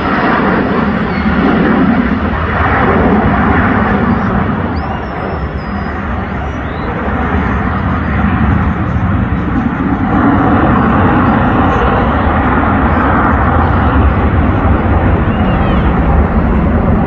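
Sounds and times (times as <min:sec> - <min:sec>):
jet aircraft engine roar: 0:00.0 - 0:17.0.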